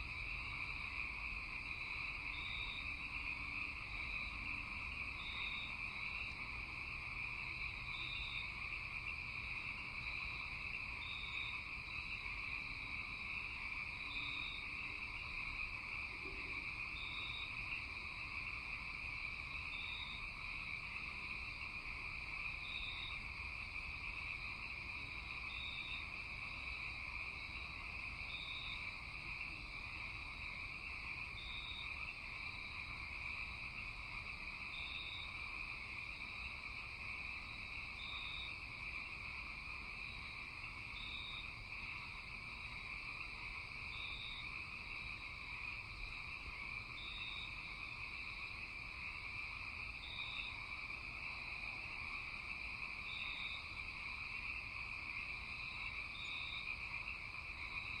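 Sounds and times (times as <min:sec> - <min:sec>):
insect and frog chorus: 0:00.0 - 0:58.0.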